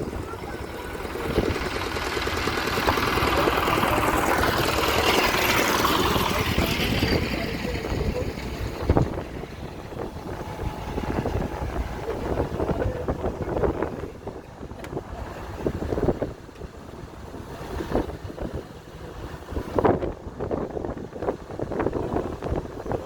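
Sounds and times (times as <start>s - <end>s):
vehicle passing close: 0.0s - 20.0s
low traffic rumble: 0.0s - 23.0s.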